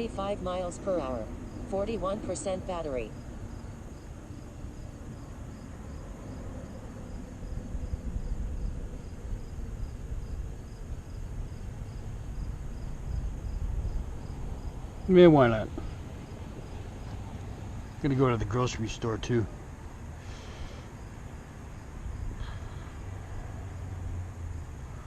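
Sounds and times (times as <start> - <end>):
insects chirping: 0.0 - 25.0
low outdoor rumble: 0.0 - 25.0.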